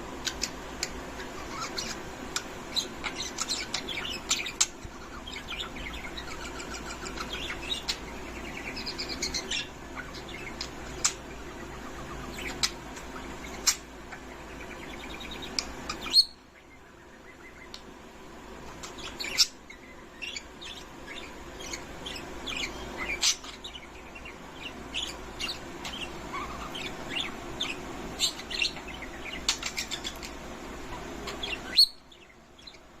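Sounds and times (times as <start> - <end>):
budgerigars chirping and chattering: 0.0 - 18.0, 18.6 - 33.0.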